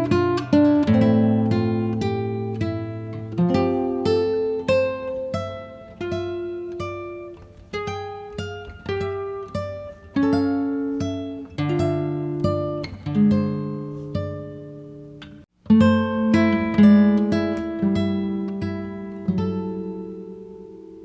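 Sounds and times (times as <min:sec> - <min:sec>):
acoustic guitar plucking: 0:00.0 - 0:21.0.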